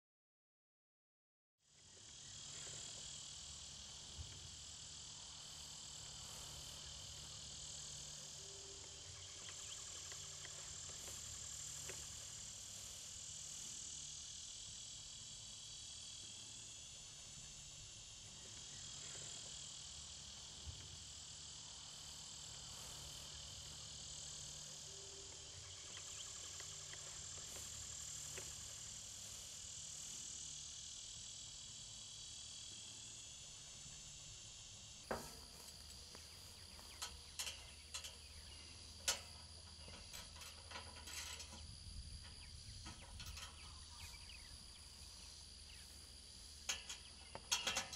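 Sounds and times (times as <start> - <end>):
insects chirring: 1.7 - 47.9.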